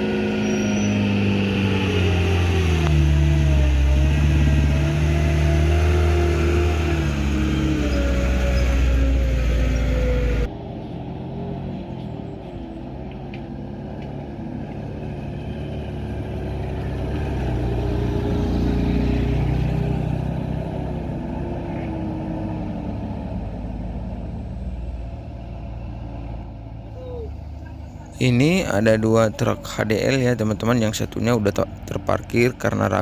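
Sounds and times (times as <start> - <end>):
truck engine under load: 0.0 - 33.0.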